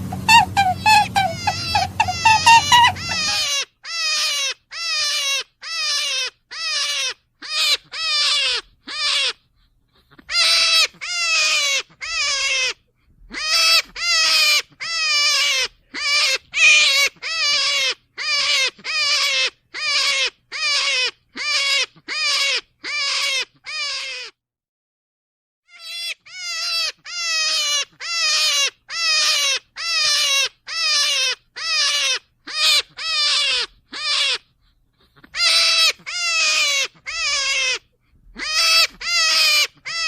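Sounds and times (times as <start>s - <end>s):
rabbit squealing: 0.0s - 24.4s, 25.7s - 40.0s.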